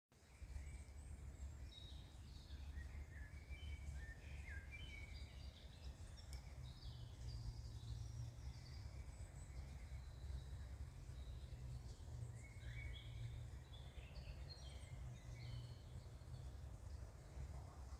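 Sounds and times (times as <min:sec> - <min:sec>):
small birds chirping: 0:00.3 - 0:17.5.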